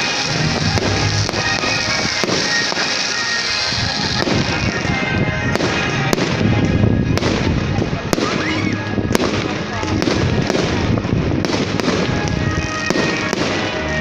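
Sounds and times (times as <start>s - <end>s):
fireworks bangs: 0.0s - 14.0s
fireworks crackling and fizzing: 0.0s - 14.0s
show music: 0.0s - 14.0s.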